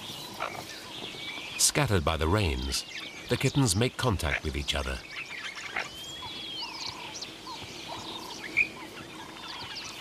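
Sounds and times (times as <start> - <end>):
faint outdoor background: 0.0 - 10.0.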